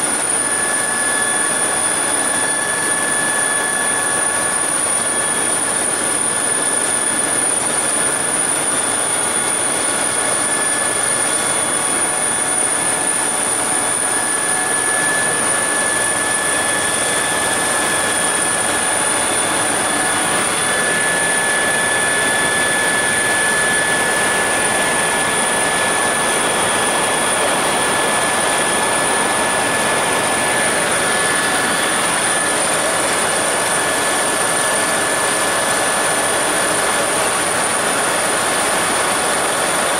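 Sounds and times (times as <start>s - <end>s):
helicopter rotor and turbine rushing: 0.0s - 39.9s
high-pitched whine: 0.0s - 39.9s.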